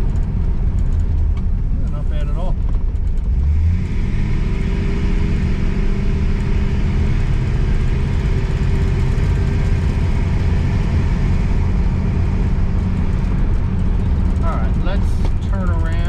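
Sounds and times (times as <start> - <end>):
car interior engine and road noise: 0.0 - 16.0.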